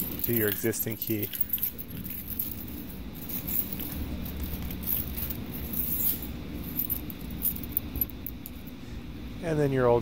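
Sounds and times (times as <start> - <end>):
keys clicking and clinking: 0.0 - 8.8
steady low hum: 0.0 - 10.0.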